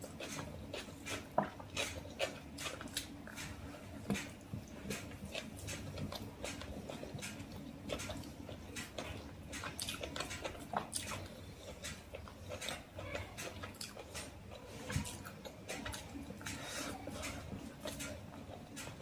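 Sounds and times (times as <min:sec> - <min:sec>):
wet chewing and lip smacks: 0:00.0 - 0:19.0.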